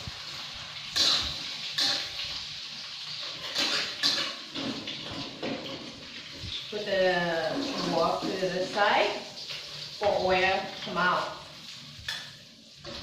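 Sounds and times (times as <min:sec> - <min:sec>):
egg sizzling in hot oil: 0:00.0 - 0:13.0
metal spatula scraping a wok: 0:00.0 - 0:13.0.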